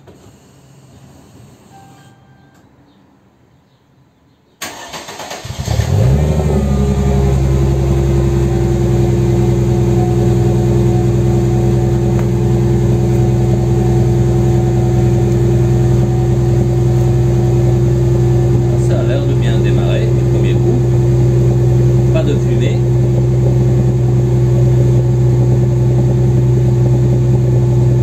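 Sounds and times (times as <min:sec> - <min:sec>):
car engine revving and idling: 0:05.2 - 0:28.0.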